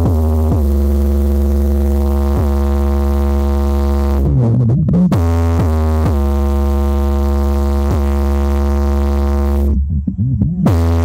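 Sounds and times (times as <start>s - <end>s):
sustained synthesizer chord: 0.0s - 4.3s, 5.2s - 10.0s
deep steady bass note: 0.0s - 11.0s
loud electronic music: 0.0s - 11.0s.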